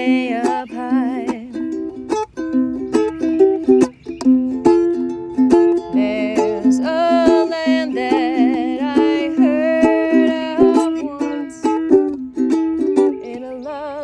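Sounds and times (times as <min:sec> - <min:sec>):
plucked string instrument: 0:00.0 - 0:14.0
woman singing wordless melody: 0:00.0 - 0:14.0.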